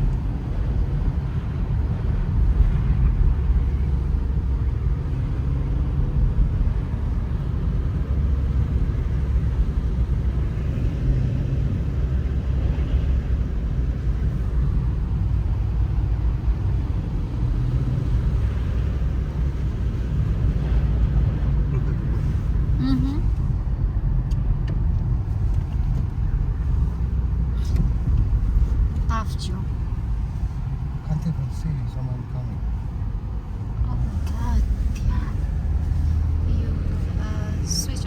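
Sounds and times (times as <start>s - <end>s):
car engine and tyres rumbling: 0.0s - 38.0s.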